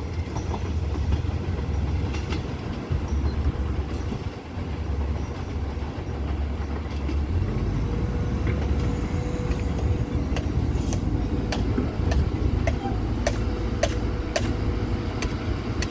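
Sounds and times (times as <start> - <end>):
diesel machinery rumbling: 0.0 - 15.9.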